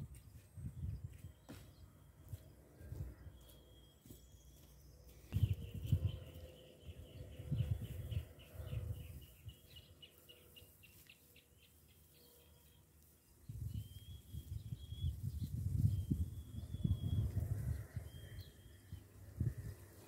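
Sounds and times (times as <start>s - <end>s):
rustling of dry weeds and soil: 0.0s - 20.0s.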